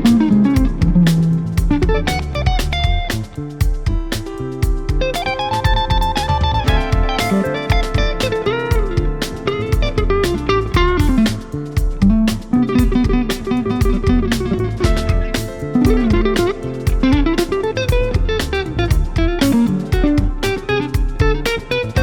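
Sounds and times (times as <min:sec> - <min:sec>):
electric guitar lead with bent notes: 0:00.0 - 0:22.0
soul band playing: 0:00.0 - 0:22.0.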